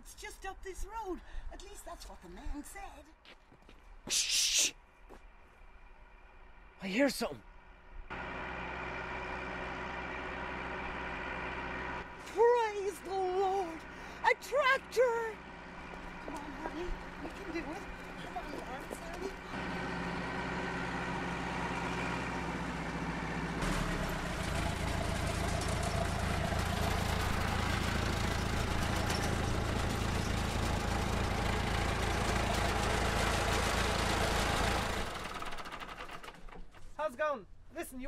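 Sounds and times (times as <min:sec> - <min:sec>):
diesel tractor engine running: 0:05.3 - 0:37.0.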